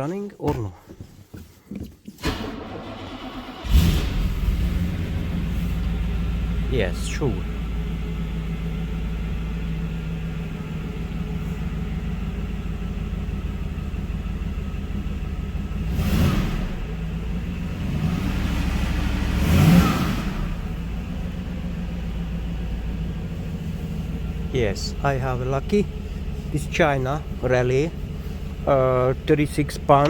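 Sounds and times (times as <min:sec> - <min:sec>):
car engine idling and revving: 0:02.2 - 0:30.0.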